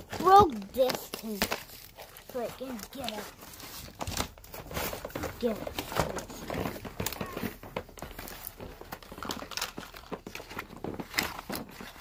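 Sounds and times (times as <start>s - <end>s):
cardboard crinkling and scraping: 0.0s - 12.0s.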